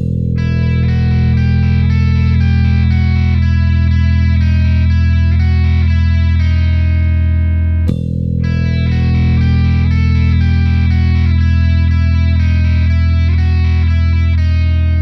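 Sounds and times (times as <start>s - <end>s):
electric bass low note: 0.0s - 15.0s
guitar-led rock backing track: 0.0s - 15.0s.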